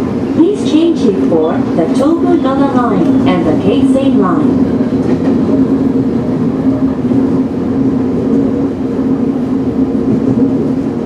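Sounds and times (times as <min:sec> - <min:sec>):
electric train hum: 0:00.0 - 0:11.0.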